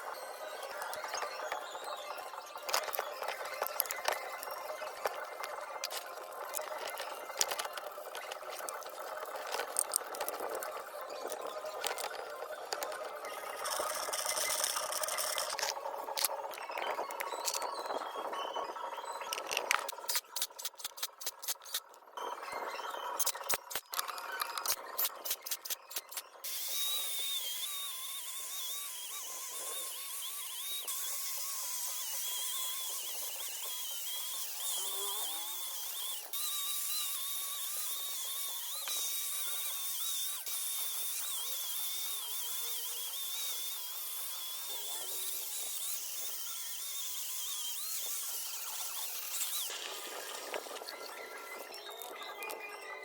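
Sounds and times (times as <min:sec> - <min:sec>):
small power tool whining: 0:00.0 - 0:53.0.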